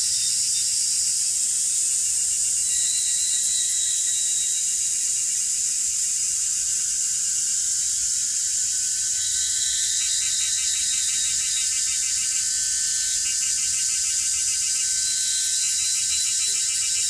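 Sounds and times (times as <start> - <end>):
insects shrill drone: 0.0 - 17.0.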